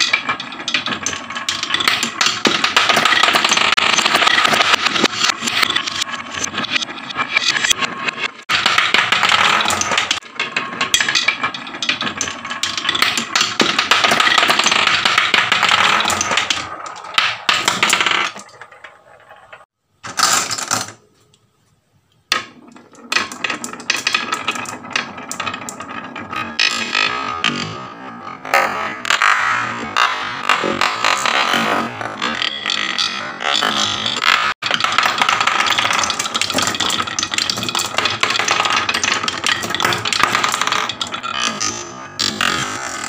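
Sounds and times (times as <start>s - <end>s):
marbles rattling down wooden run: 0.0s - 21.0s, 22.3s - 28.0s, 28.6s - 43.0s.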